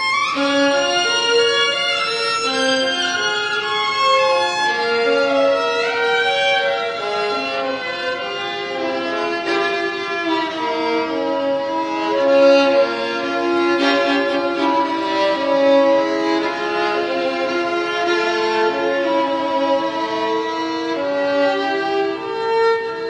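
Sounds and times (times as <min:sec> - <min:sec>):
violin melody: 0:00.0 - 0:23.0.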